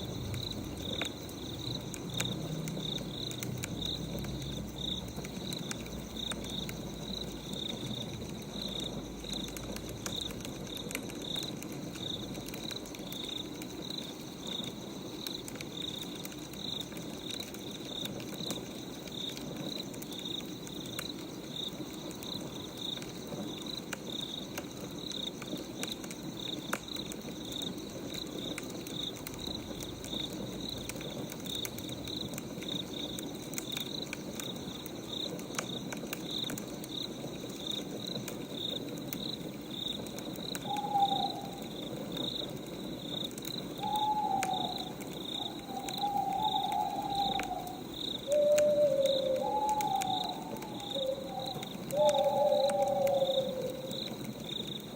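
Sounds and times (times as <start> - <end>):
crickets chirping: 0.0 - 54.9
wood fire crackling: 0.0 - 54.9.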